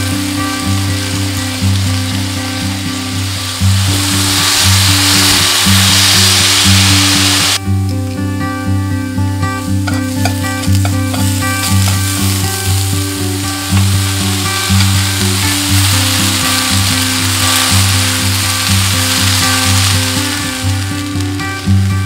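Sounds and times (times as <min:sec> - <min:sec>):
vegetables sizzling in a frying pan: 0:00.0 - 0:07.6, 0:09.6 - 0:22.0
soft acoustic music: 0:00.0 - 0:22.0.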